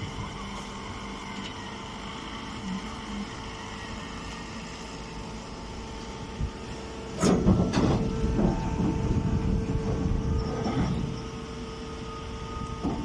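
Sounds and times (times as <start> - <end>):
baler machine motor hum: 0.0 - 13.0.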